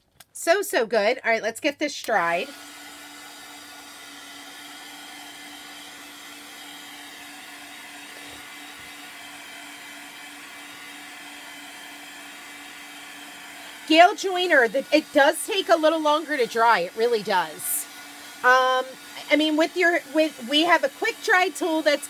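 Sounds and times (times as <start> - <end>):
hot-air dryer whirring: 2.1 - 22.0.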